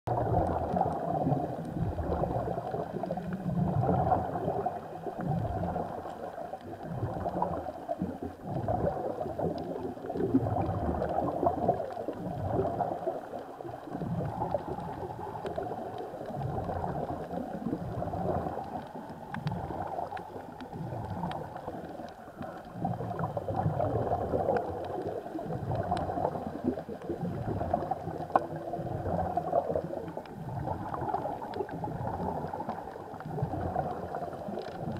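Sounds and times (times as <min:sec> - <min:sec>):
muffled underwater water movement: 0:00.1 - 0:34.9.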